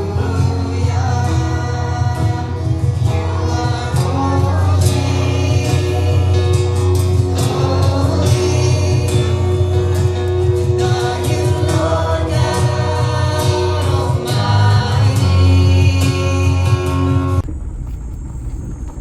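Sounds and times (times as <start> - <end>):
choir-style song with bass: 0.0 - 17.5.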